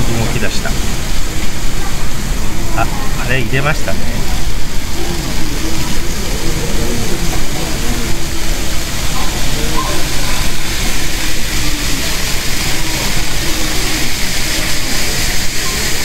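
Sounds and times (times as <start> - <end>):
model trains rolling on tracks: 0.0 - 16.0.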